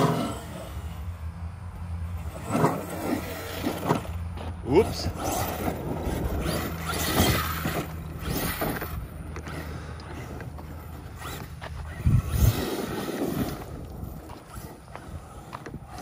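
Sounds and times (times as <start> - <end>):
rc truck motor revving: 0.0 - 16.0
tyres scrabbling on gravel: 2.2 - 16.0.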